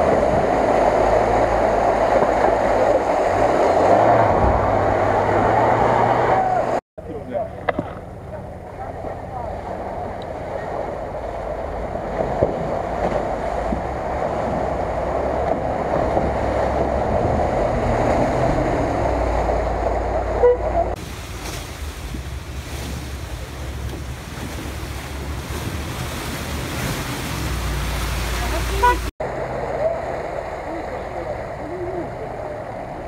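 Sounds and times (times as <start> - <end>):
wind noise on microphone: 0.0 - 6.8, 7.6 - 29.1
tyres splashing through mud: 0.0 - 33.0
vehicle engine running low: 0.0 - 33.0.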